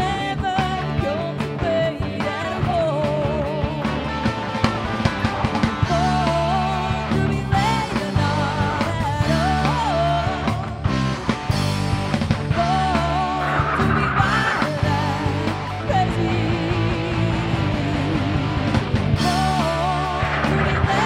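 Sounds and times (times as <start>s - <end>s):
rock music: 0.0s - 21.0s.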